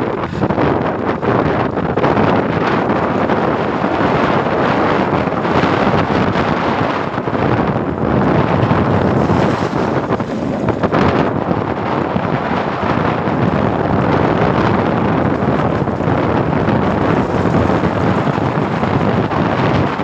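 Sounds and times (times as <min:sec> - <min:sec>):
wind rumbling on microphone: 0:00.0 - 0:20.0
heavy rain and hail: 0:00.1 - 0:20.0.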